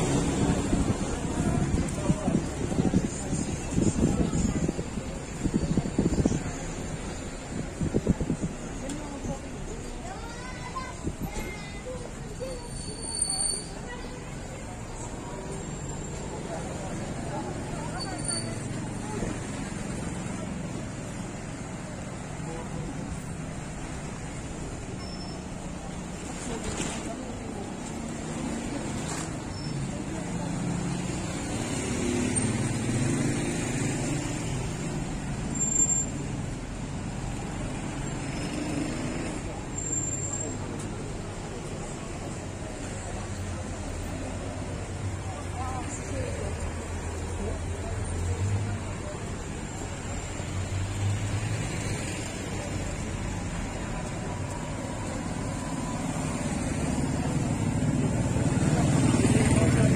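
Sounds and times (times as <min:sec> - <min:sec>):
cars passing on road: 0:00.0 - 0:59.9.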